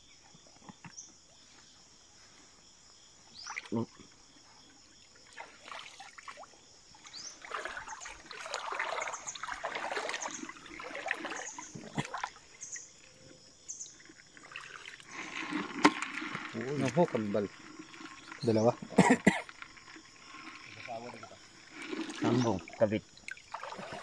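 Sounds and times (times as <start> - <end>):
water splashing and trickling: 2.9 - 24.0.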